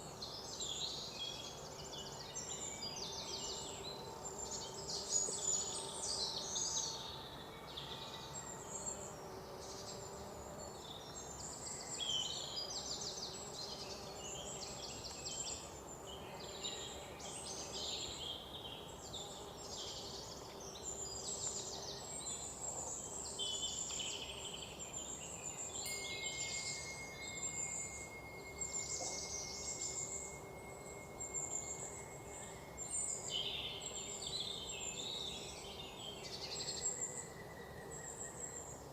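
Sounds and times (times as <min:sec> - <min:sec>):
thin insect-like whine: 0:00.0 - 0:38.9.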